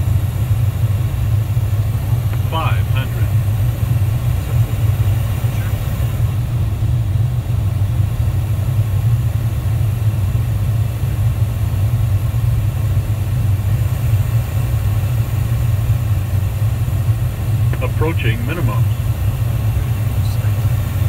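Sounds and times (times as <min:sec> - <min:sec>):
jet cockpit rumble: 0:00.0 - 0:21.0.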